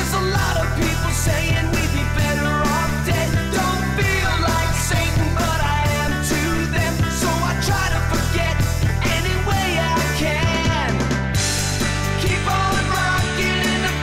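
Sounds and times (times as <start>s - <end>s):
rock music with male vocals: 0.0s - 14.0s.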